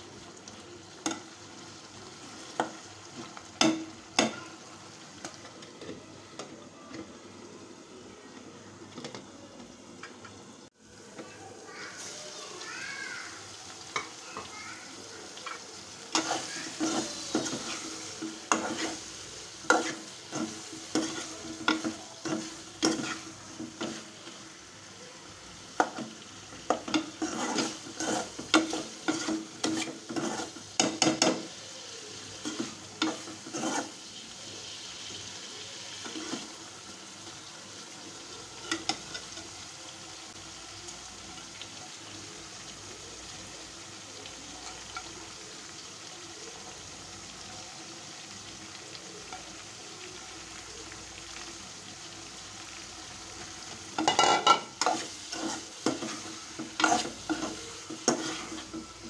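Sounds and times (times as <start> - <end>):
curry sizzling: 0.0 - 59.0.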